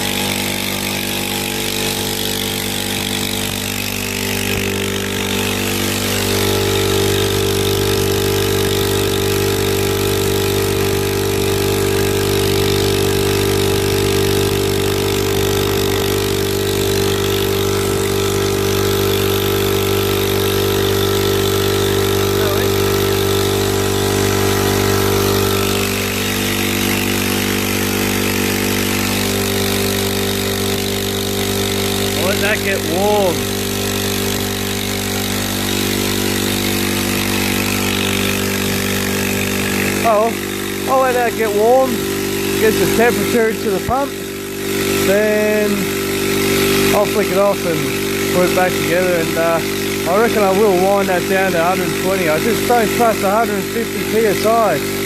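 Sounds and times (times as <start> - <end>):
air compressor pump running: 0.0 - 55.0.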